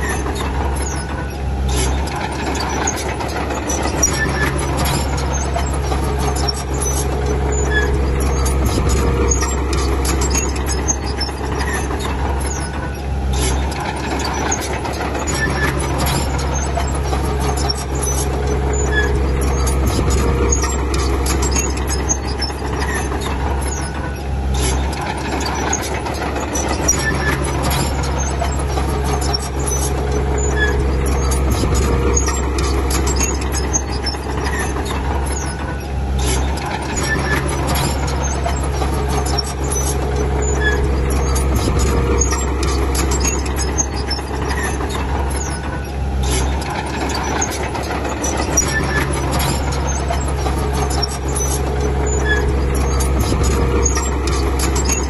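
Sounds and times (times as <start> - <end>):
clicks and clatter: 0.0 - 55.0
heavy machinery diesel engines: 0.0 - 55.0.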